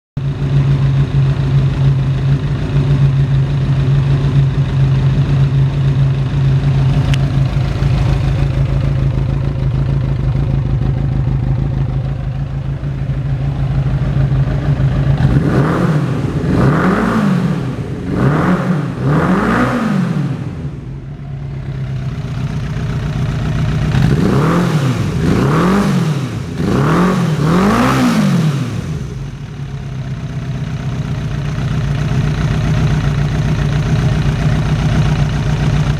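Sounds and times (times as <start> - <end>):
motorcycle engine idling and revving: 0.2 - 35.9.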